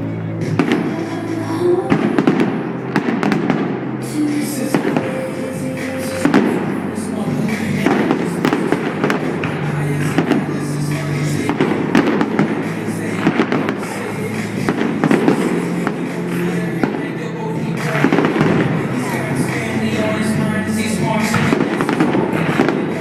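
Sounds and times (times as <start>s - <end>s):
loud music: 0.0s - 23.0s
fireworks bangs and crackles: 0.4s - 23.0s.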